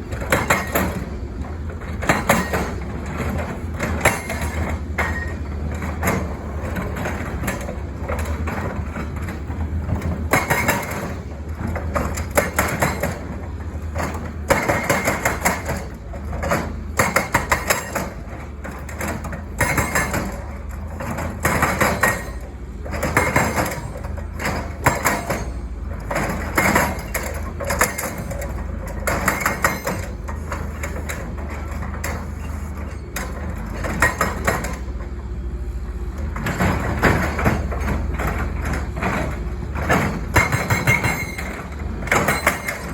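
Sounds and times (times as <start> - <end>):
hydraulic breaker hammer pounding: 0.0 - 35.2, 36.3 - 42.9
diesel engine drone: 0.0 - 42.9.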